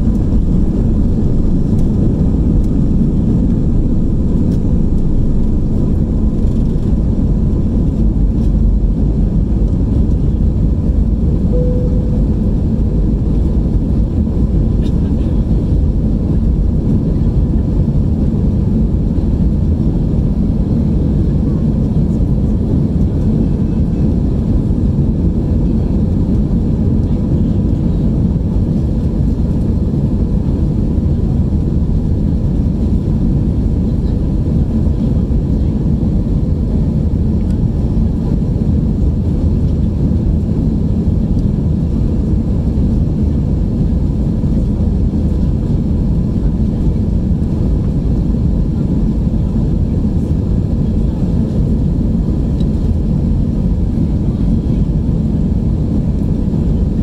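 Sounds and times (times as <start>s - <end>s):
faint engine whine: 0.0s - 57.0s
jet engines deep rumble: 0.0s - 57.0s.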